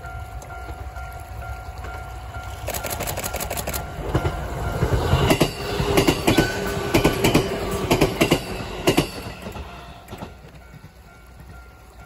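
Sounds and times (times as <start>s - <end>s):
electric train rumbling past: 0.0s - 12.0s
train wheels clicking over rail joints: 0.0s - 12.0s.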